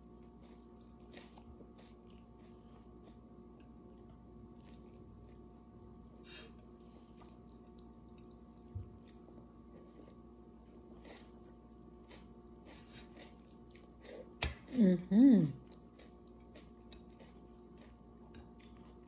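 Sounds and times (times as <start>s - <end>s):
steady low hum: 0.0s - 19.0s
person chewing food: 0.1s - 5.4s, 6.4s - 14.8s, 15.6s - 19.0s.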